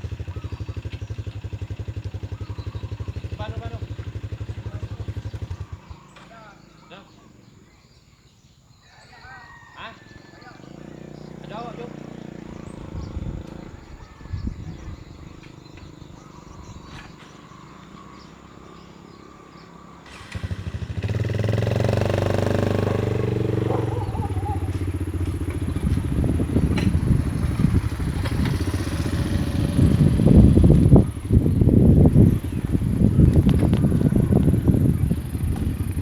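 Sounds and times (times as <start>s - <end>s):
small engine starting and running: 0.0s - 6.9s, 10.5s - 14.5s, 15.4s - 36.0s.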